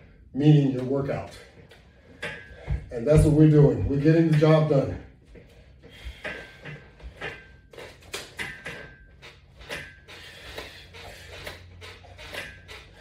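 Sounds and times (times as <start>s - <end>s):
exercise equipment creaking and knocking: 0.0s - 13.0s.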